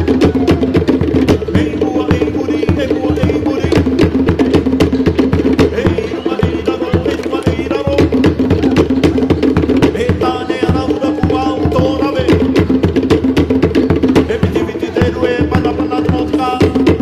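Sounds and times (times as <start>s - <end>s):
deep drum beats: 0.0s - 17.0s.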